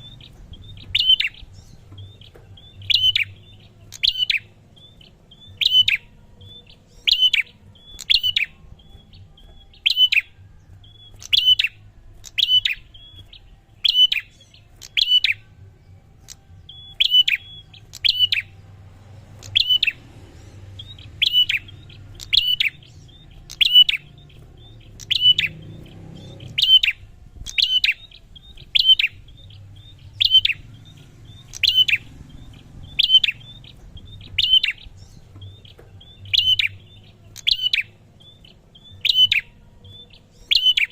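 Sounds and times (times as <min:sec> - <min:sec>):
bird sharp chirping call: 0:00.0 - 0:15.6, 0:16.2 - 0:18.6, 0:19.3 - 0:40.9.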